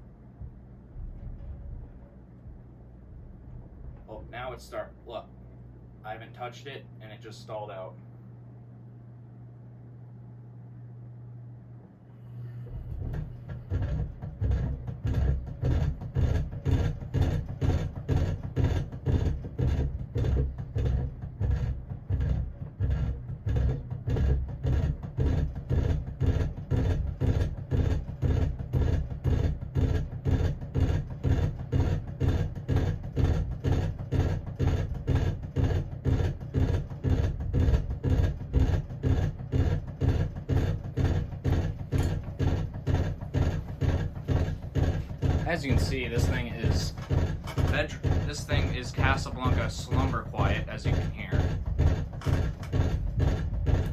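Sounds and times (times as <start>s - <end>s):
ceiling fan thumping: 0.0s - 7.9s, 12.4s - 53.9s.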